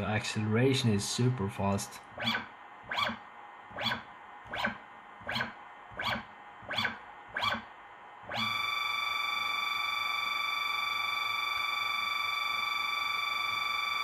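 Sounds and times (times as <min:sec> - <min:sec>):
stepper motor whine: 0:02.2 - 0:07.7, 0:08.3 - 0:14.0.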